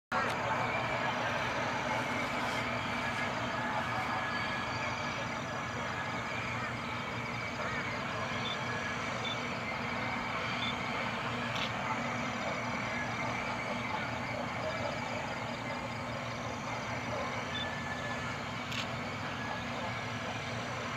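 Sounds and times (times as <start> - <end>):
distant diesel locomotive running: 0.1 - 20.9.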